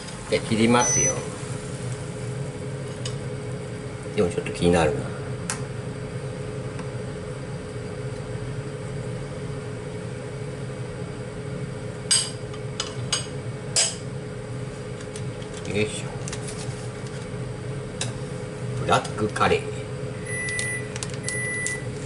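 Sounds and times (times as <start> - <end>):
ventilation fan humming: 0.0 - 22.0.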